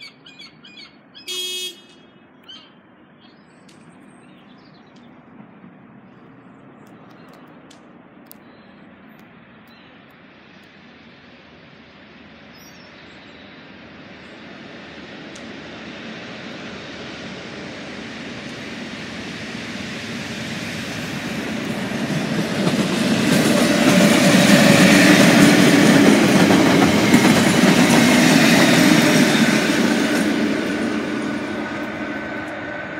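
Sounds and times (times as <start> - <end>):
diesel locomotive engines: 0.0 - 32.9
train wheels on rails: 3.5 - 32.9.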